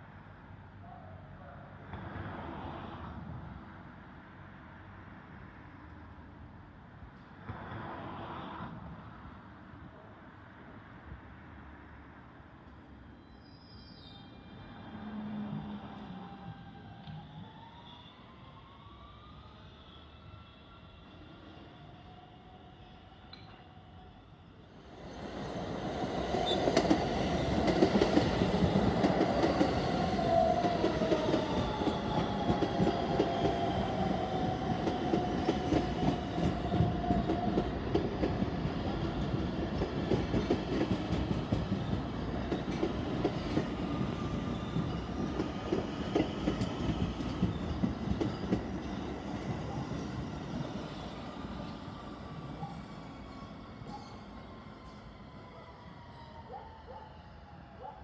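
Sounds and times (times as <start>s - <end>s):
subway train passing: 0.0s - 58.0s.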